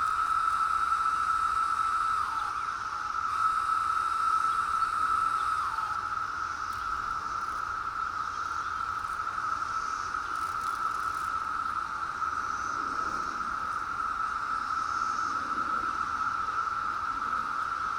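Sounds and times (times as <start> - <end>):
cicadas droning: 0.0 - 17.9.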